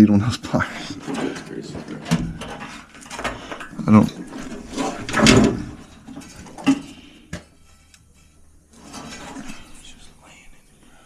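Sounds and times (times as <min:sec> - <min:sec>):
metal scraping: 0:00.7 - 0:10.0.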